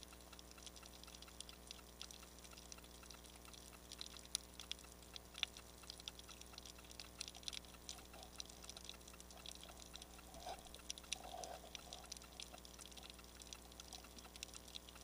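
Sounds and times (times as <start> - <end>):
low steady hum: 0.0 - 15.0
underwater clicks and ticks: 0.0 - 15.0.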